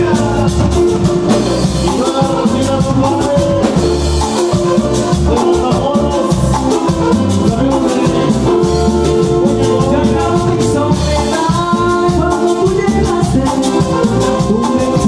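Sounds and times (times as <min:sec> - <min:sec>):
accordion melody: 0:00.0 - 0:15.0
drum kit and bass beat: 0:00.0 - 0:15.0
keyboard melody: 0:00.0 - 0:15.0.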